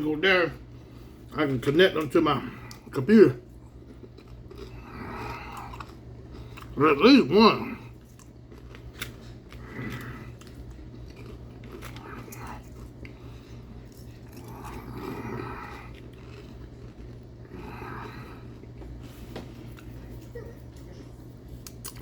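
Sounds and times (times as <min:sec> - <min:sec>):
man chewing food: 0:00.5 - 0:22.0.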